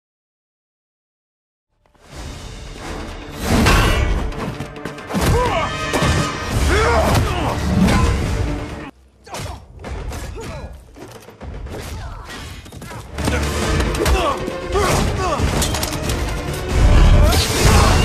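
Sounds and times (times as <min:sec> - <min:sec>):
dramatic film score: 0:01.8 - 0:18.0.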